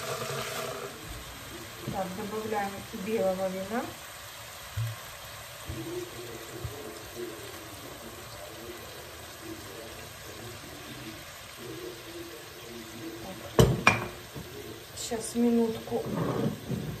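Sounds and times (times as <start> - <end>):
wine pouring into hot pan: 0.0 - 17.0.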